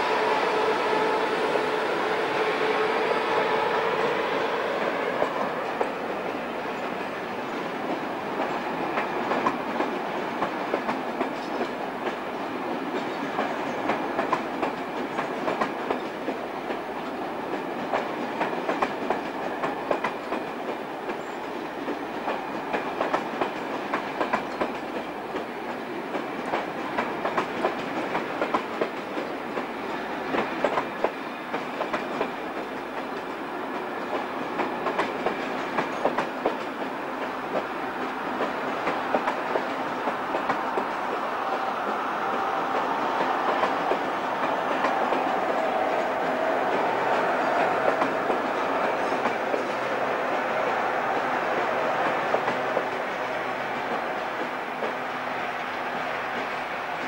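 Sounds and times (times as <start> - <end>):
train wheels clattering over rails: 2.4 - 57.0.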